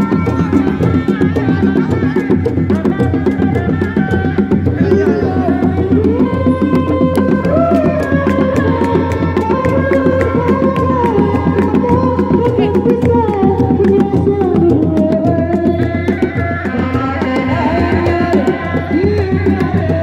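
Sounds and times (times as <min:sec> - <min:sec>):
frame drums struck by hand: 0:00.0 - 0:20.0.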